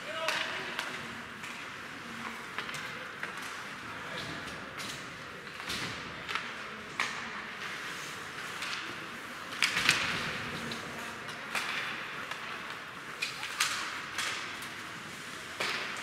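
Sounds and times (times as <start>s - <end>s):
hockey sticks and puck clacking: 0.0s - 16.0s.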